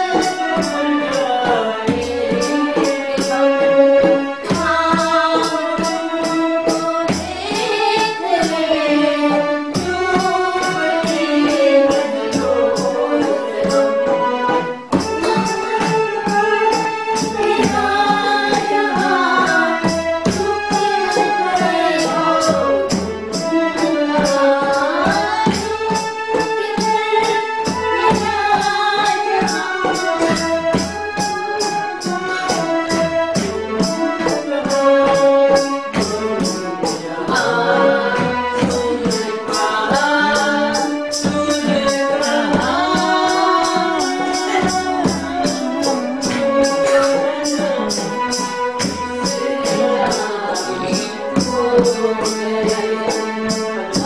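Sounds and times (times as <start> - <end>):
jingling hand percussion: 0.0 - 54.0
woman singing: 0.0 - 54.0.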